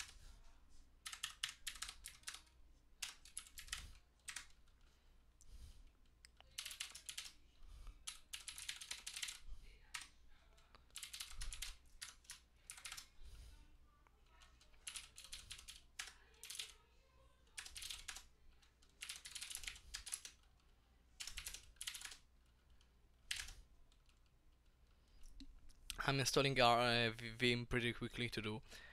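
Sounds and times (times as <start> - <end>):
faint keyboard typing: 0.0 - 26.1.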